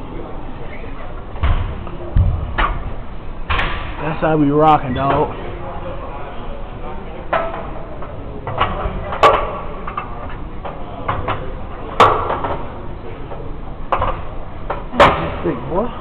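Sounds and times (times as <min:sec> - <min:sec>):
weight room background noise: 0:00.0 - 0:16.0.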